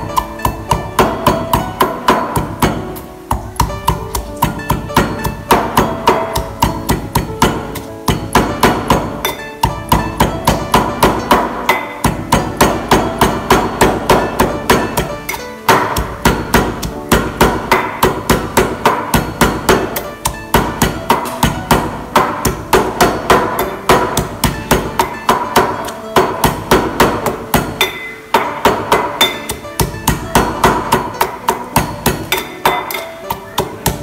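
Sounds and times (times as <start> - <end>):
metal pestle pounding in mortar: 0.0 - 34.0.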